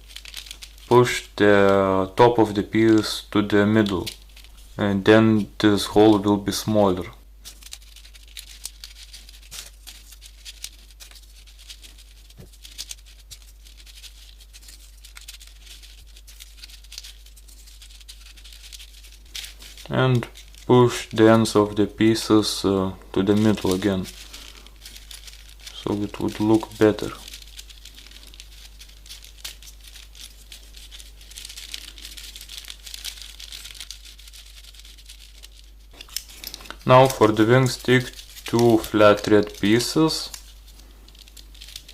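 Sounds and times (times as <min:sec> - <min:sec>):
crisp paper clicks: 0:00.0 - 0:04.8, 0:07.4 - 0:22.2, 0:23.0 - 0:41.9
paper rustling and crinkling: 0:00.0 - 0:41.9.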